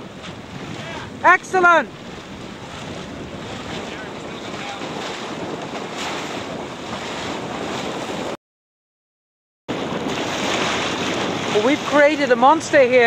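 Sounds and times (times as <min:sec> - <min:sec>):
choppy water sloshing: 0:00.0 - 0:08.4, 0:09.7 - 0:13.0
wind noise on microphone: 0:00.0 - 0:08.4, 0:09.7 - 0:13.0.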